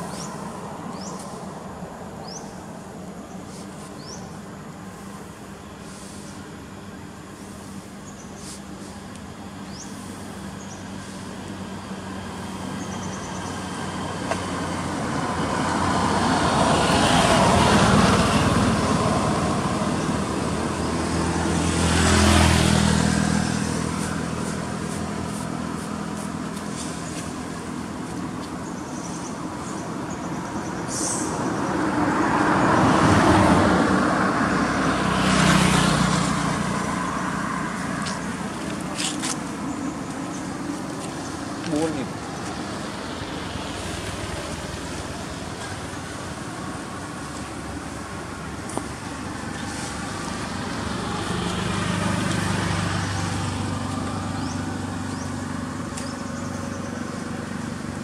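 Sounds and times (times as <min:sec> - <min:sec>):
vehicles passing: 0:00.0 - 0:58.0.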